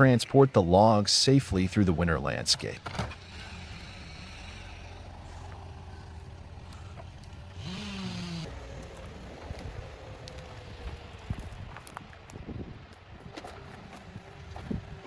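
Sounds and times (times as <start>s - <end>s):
diesel engine running: 1.6s - 15.0s.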